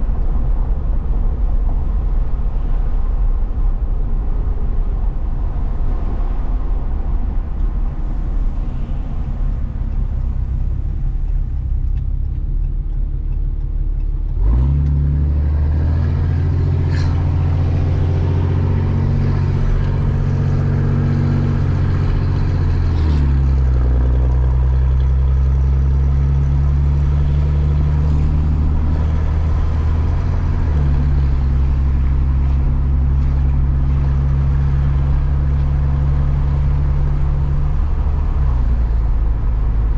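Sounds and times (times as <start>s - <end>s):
road noise: 0.0s - 39.9s
truck engine: 0.0s - 39.9s.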